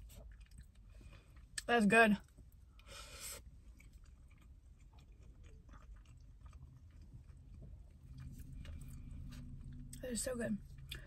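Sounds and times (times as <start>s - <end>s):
chewing food: 0.0s - 10.0s, 10.6s - 11.0s.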